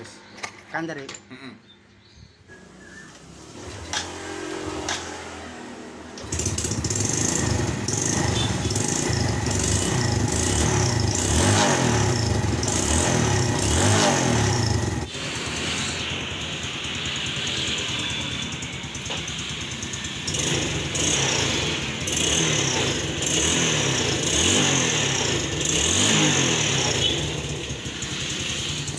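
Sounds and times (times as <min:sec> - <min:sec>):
motorcycle engine revving and idling: 0:02.6 - 0:28.9.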